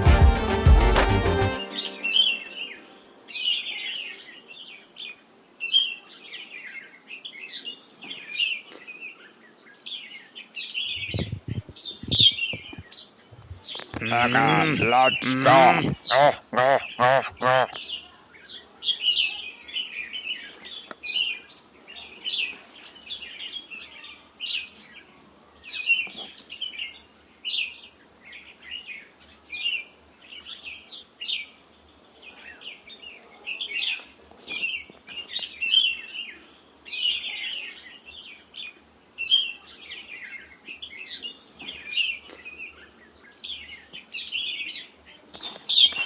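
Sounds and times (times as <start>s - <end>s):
small birds chirping: 1.6s - 46.0s.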